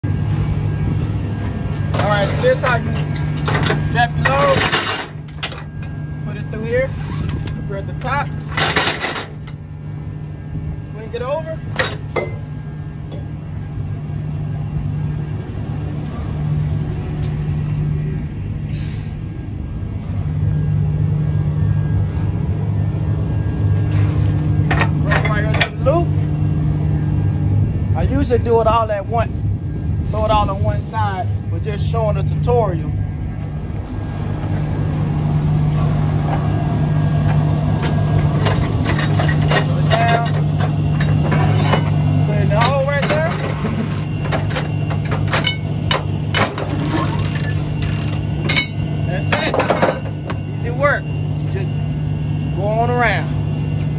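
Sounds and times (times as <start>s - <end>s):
heavy engine idling: 0.0s - 53.9s.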